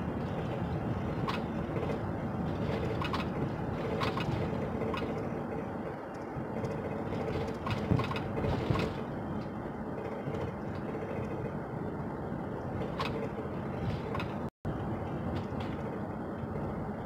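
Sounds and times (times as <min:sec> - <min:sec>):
car tyres and engine rumble: 0:00.0 - 0:17.0.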